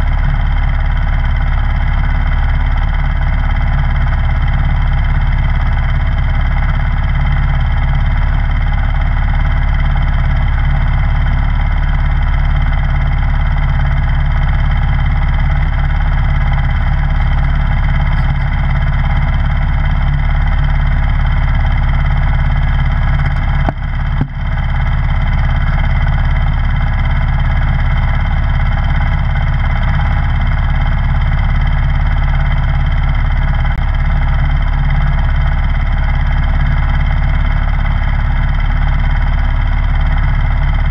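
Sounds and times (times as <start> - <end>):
snowblower engine droning: 0.0 - 40.9.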